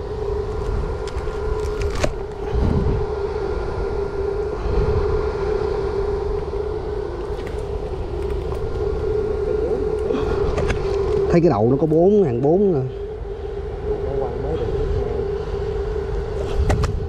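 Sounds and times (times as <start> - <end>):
low rumbling noise: 0.0 - 17.0
steady droning hum: 0.0 - 17.0.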